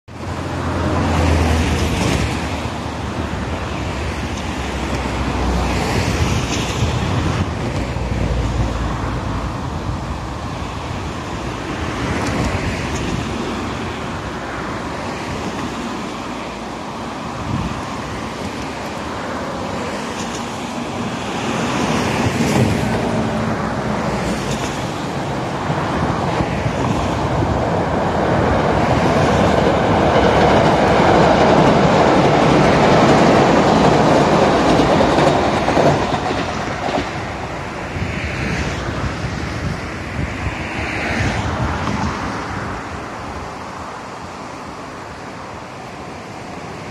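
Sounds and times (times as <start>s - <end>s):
electric train rumble: 0.1s - 46.9s
wind buffeting microphone: 1.0s - 16.2s, 17.2s - 43.6s.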